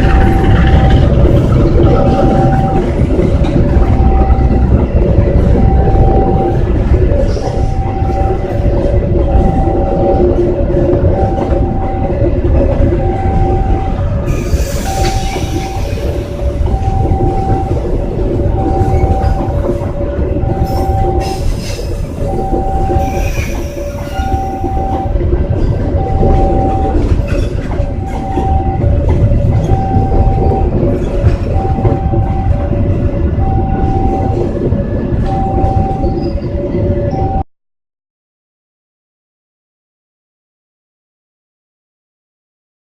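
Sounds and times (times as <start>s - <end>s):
warning signal beeps: 0.0s - 14.1s, 14.7s - 25.2s, 25.9s - 37.4s
train rumble and wheel clatter: 0.0s - 37.4s.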